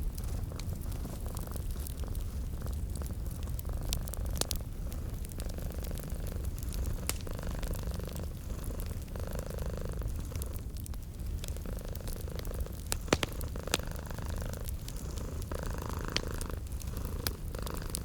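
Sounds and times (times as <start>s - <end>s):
cat purring: 0.0s - 18.0s
wood fire crackling and popping: 0.0s - 18.0s.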